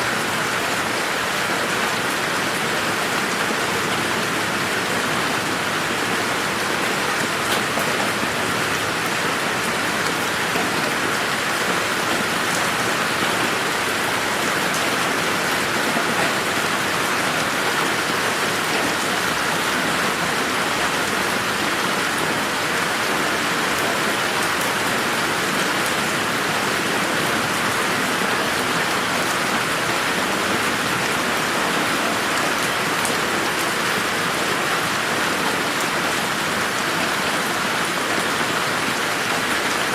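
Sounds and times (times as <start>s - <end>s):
rain hissing on surfaces: 0.0s - 39.9s
raindrops: 0.0s - 39.9s.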